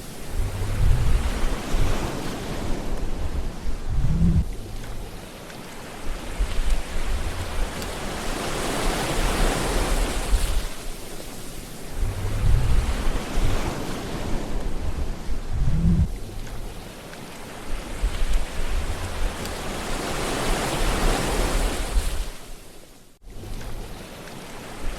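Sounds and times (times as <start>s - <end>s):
wind buffeting microphone: 0.0s - 22.5s
sea waves washing in: 0.0s - 24.9s.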